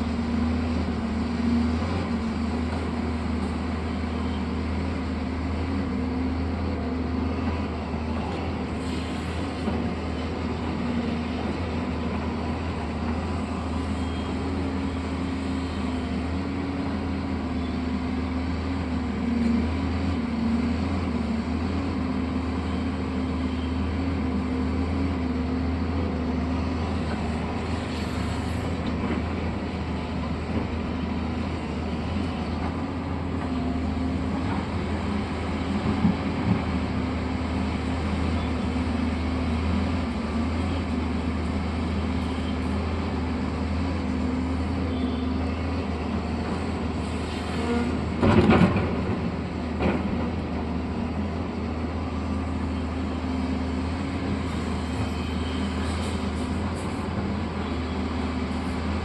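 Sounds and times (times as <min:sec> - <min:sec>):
heavy machine engine humming: 0:00.0 - 0:59.0.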